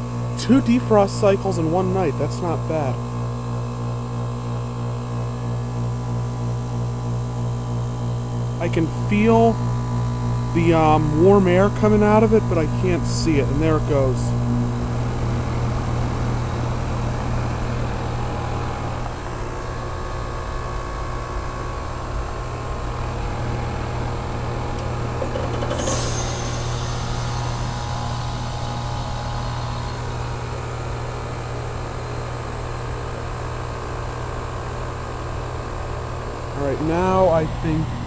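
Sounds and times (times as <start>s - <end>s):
heat pump compressor hum: 0.0s - 38.0s.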